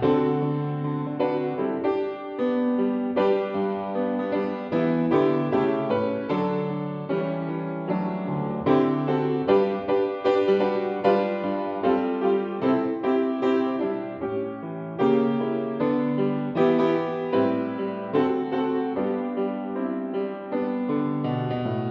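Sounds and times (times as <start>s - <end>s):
slow piano music: 0.0s - 21.9s.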